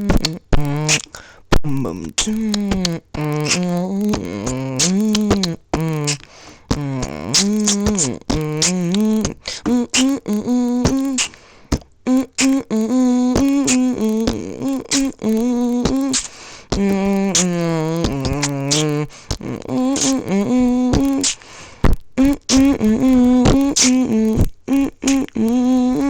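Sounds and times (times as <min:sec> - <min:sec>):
voice humming sliding notes: 0:00.0 - 0:01.1, 0:01.7 - 0:11.4, 0:12.1 - 0:21.4, 0:22.2 - 0:26.0
mouth clicks and pops: 0:00.0 - 0:26.0.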